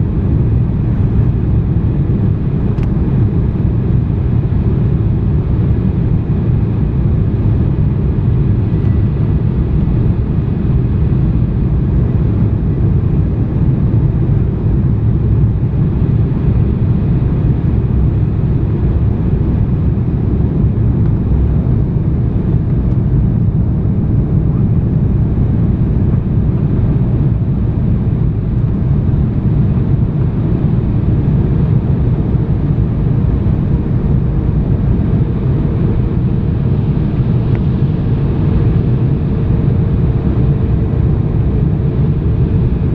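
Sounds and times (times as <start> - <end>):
airliner cabin engine drone: 0.0 - 42.9
faint steady whine: 0.0 - 42.9.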